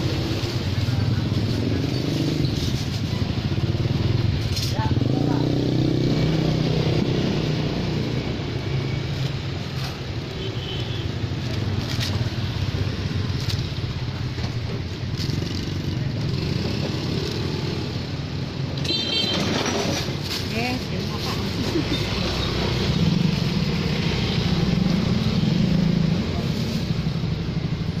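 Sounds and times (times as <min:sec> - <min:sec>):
motor vehicles running: 0:00.0 - 0:10.4, 0:11.0 - 0:28.0.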